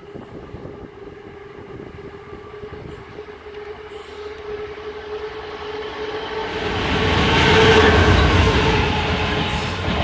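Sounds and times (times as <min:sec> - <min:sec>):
diesel locomotive engine: 0:00.0 - 0:10.0.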